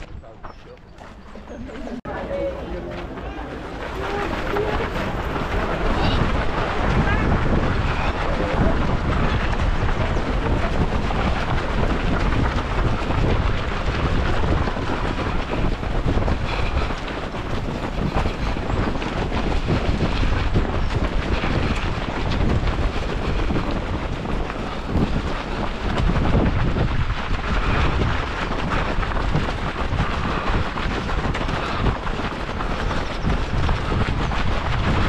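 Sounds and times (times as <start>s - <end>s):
wind buffeting the microphone: 0.0s - 35.0s.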